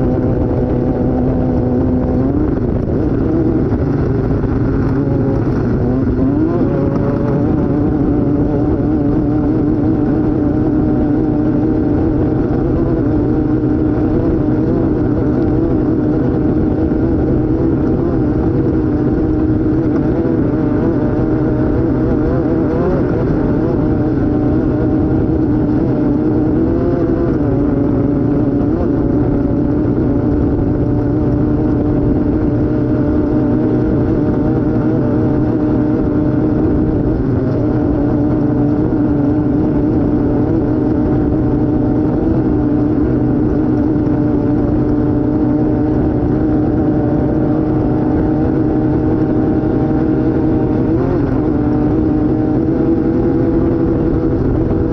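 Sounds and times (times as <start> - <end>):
race vehicle engine revving: 0.0 - 54.9.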